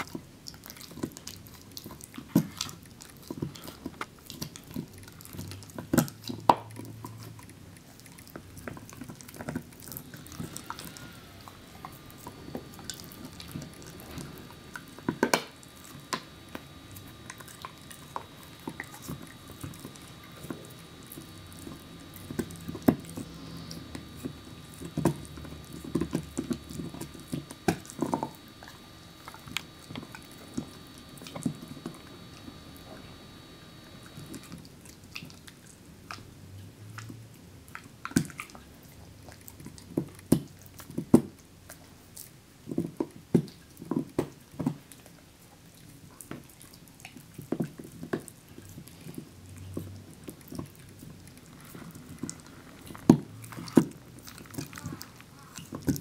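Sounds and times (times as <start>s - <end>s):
dog gnawing chew bone: 0.0s - 56.0s.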